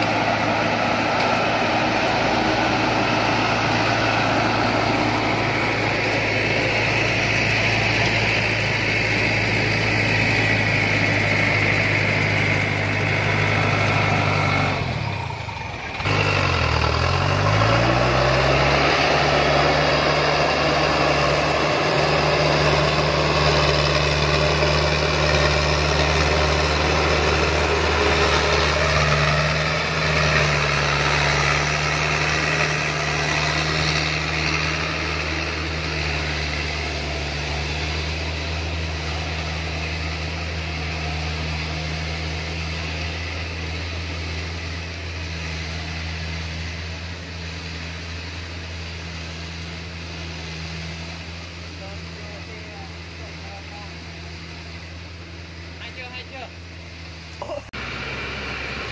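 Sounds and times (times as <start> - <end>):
truck diesel engine droning: 0.0 - 58.9.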